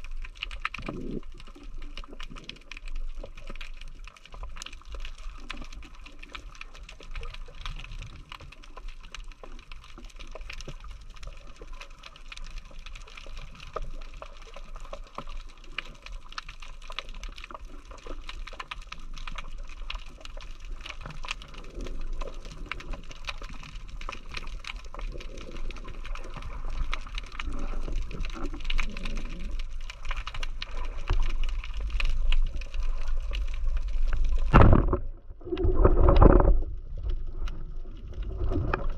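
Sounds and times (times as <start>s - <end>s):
low rumble of moving water: 0.0s - 38.9s
underwater crackle of tiny clicks: 0.0s - 38.9s.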